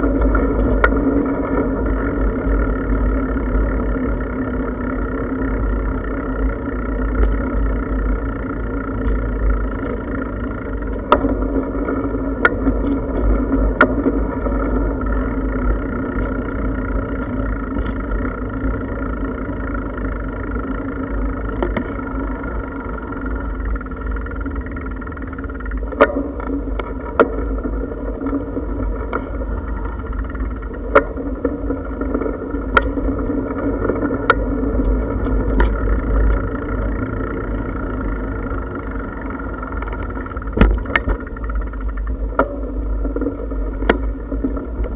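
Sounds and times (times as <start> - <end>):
bicycle tyre hum: 0.0 - 44.9
low wind rumble: 0.0 - 44.9.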